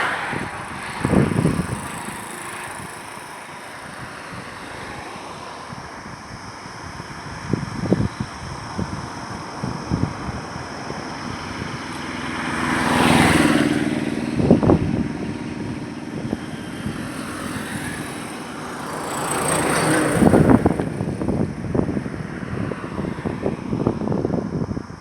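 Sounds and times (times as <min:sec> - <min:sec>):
vehicle passing close: 0:00.0 - 0:06.2, 0:06.9 - 0:24.4
highway traffic noise: 0:00.0 - 0:25.0.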